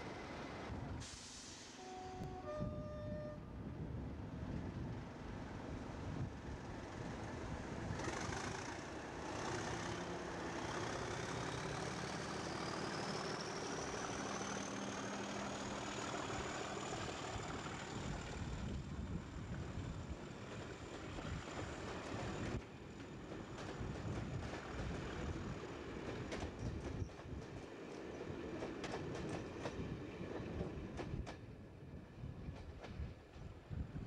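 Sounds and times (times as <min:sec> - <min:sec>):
diesel locomotive engine under power: 0:00.0 - 0:31.4.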